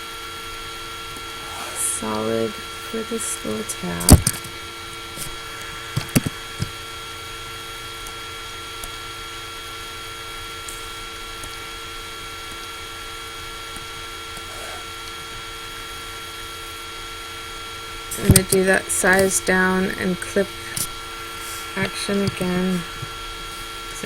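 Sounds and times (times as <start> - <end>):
laptop fan whirring: 0.0 - 24.0.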